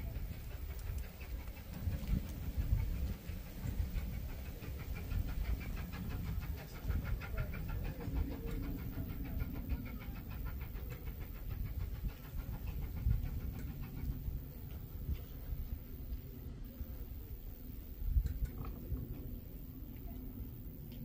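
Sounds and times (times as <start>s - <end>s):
distant steam locomotive chuffing: 0.0s - 21.0s
low uneven rumble: 0.0s - 21.0s.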